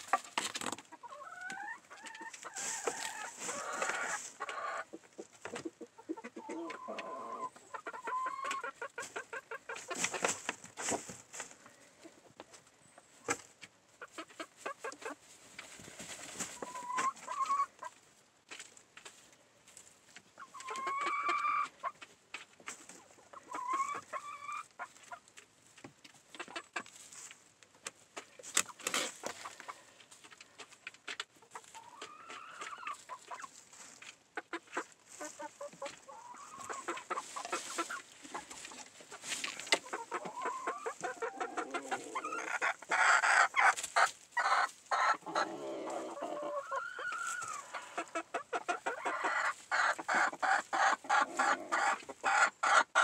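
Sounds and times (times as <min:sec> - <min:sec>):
hen scratching in bedding: 0:00.0 - 0:11.9, 0:12.5 - 0:27.5, 0:28.2 - 0:53.0
hens clucking: 0:00.0 - 0:53.0.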